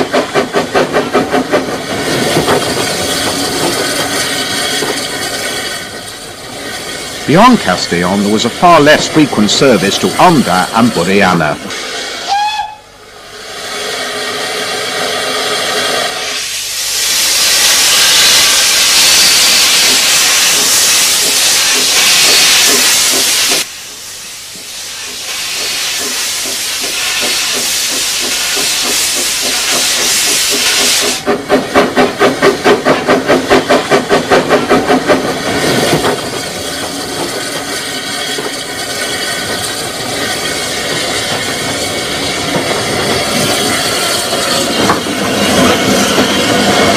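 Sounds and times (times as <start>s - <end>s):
steam hissing: 0.0s - 46.9s
steam locomotive exhaust chuffs: 0.0s - 46.9s.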